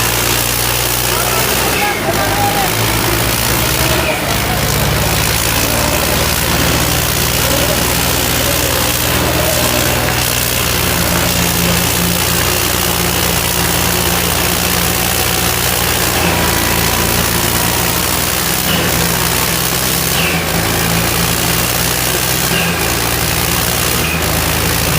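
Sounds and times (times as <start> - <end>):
tractor diesel engines running: 0.0 - 24.9.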